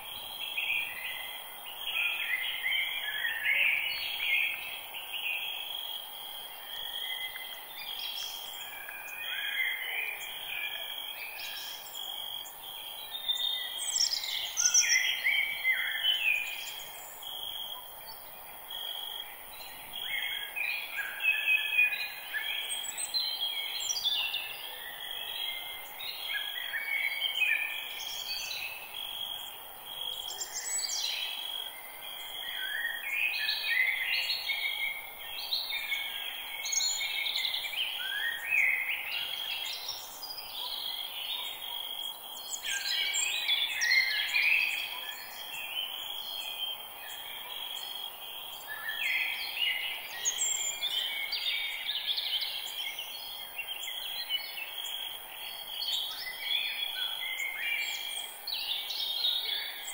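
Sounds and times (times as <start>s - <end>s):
birds singing and chirping: 0.1s - 6.0s, 6.7s - 59.9s.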